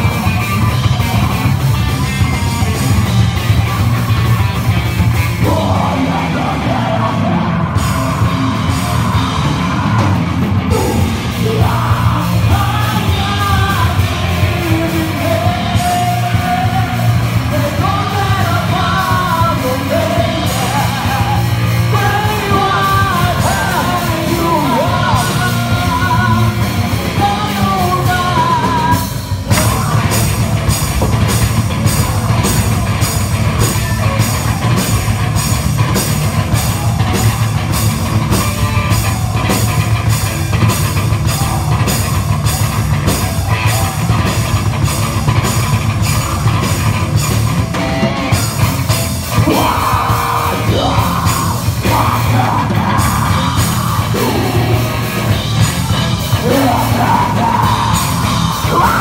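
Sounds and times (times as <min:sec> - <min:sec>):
bass guitar: 0:00.0 - 0:59.0
drums with steady beat: 0:00.0 - 0:59.0
electric guitar: 0:00.0 - 0:59.0
person singing and yelling: 0:05.2 - 0:31.1, 0:31.8 - 0:44.8, 0:49.2 - 0:59.0.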